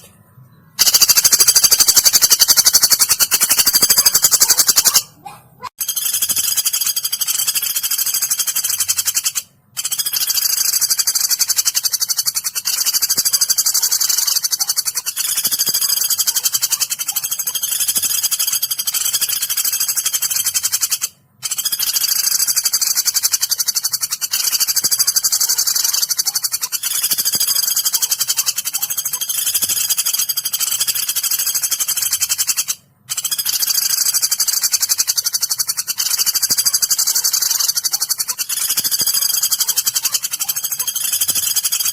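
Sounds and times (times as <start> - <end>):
woodpecker trilling calls: 0.0 - 41.9.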